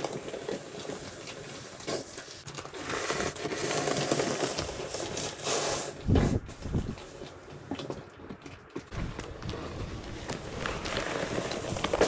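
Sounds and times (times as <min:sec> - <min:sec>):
snow plow scraping pavement: 0:00.0 - 0:07.8, 0:08.9 - 0:12.0.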